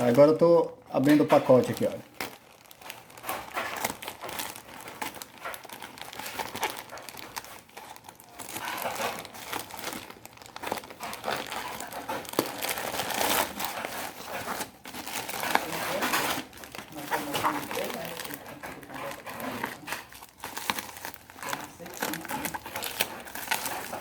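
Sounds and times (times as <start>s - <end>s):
packaging crinkling: 0.0s - 24.0s
packaging tearing: 0.0s - 24.0s.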